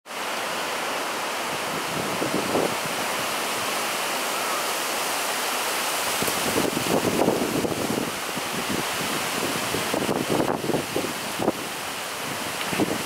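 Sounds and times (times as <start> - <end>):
strong wind through trees: 0.1 - 13.0.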